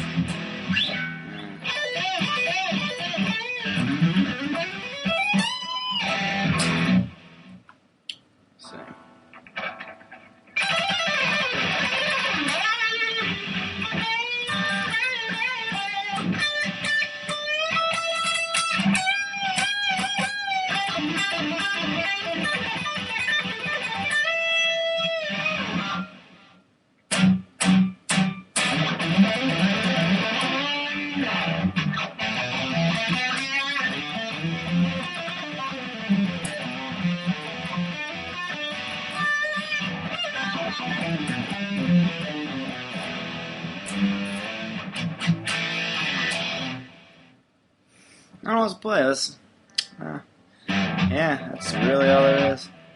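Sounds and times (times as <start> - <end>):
electric guitar chord stabs: 0.0 - 7.6, 8.6 - 26.3, 27.1 - 47.3, 50.7 - 52.9
electric guitar lead lines: 0.0 - 7.6, 8.6 - 47.4, 49.8 - 52.9.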